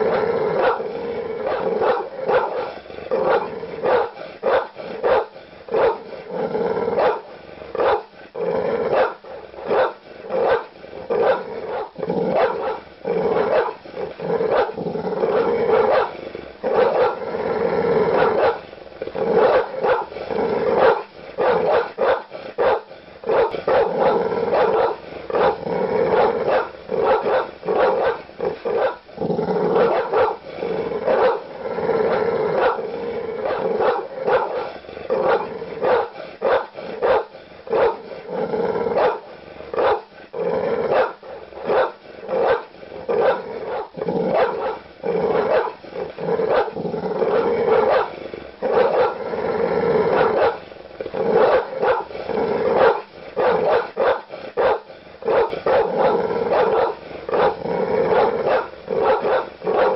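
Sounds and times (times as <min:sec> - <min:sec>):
large dog barking aggressively: 0:00.0 - 0:59.9.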